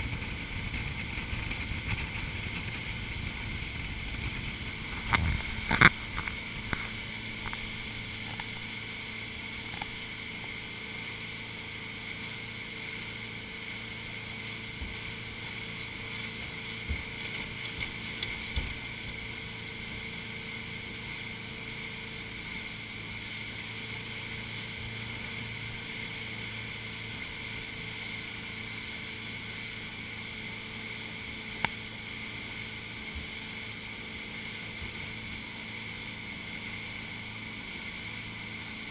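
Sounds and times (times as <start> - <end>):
motorboat engine hum: 0.0 - 38.9
water rushing past hull: 0.0 - 38.9.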